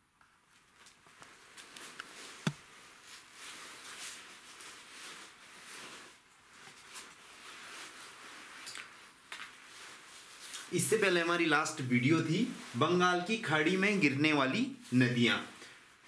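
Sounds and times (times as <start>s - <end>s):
jacket rustling against microphone: 0.5s - 16.0s.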